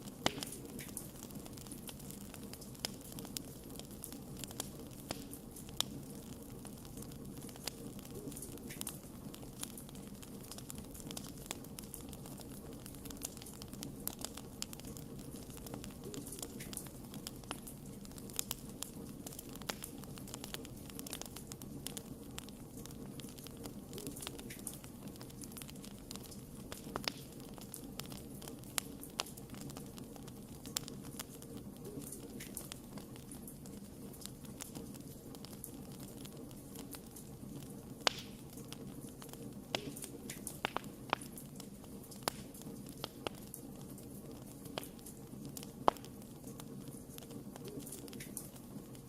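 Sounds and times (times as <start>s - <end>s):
crackles and pops of burning wood: 0.0s - 49.0s
low rush of flame: 0.0s - 49.0s.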